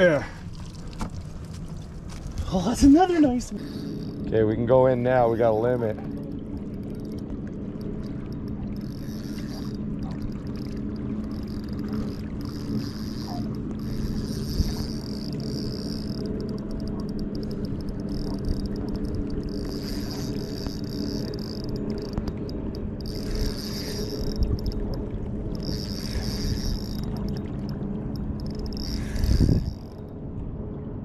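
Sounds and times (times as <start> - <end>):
boat motor humming: 0.0 - 31.0
fishing reel whirring: 2.5 - 30.2.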